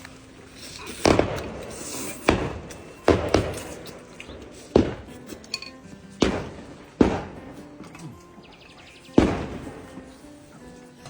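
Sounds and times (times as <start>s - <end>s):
faint background music: 0.0s - 11.0s
sharp thumps: 0.8s - 10.7s.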